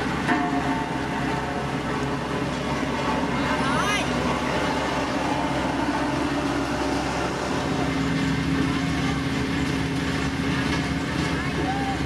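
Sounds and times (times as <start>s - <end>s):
diesel machinery engine running: 0.0s - 12.0s.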